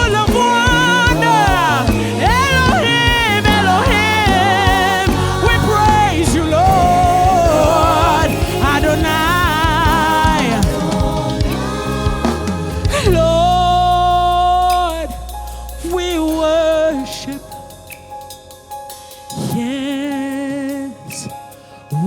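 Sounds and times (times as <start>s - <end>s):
person singing with vibrato: 0.0s - 18.2s
sustained low accompaniment: 0.0s - 18.8s.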